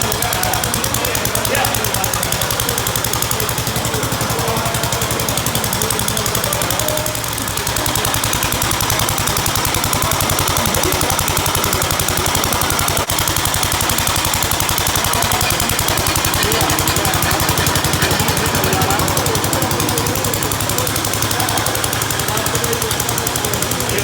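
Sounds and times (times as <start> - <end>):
single-cylinder engine running: 0.0 - 24.0.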